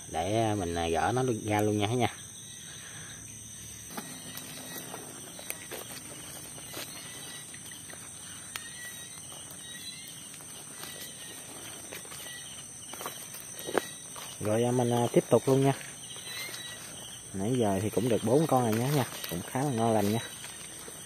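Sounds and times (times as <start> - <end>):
night insects trilling: 0.0 - 21.0.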